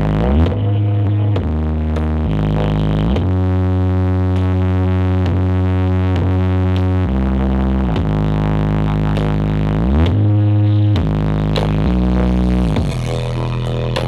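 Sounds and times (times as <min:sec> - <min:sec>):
loud electronic music: 0:00.0 - 0:14.0.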